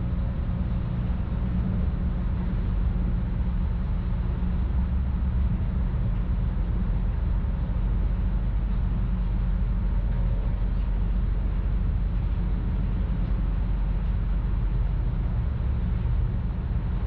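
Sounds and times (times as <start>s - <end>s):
ferry engine drone: 0.0s - 17.0s.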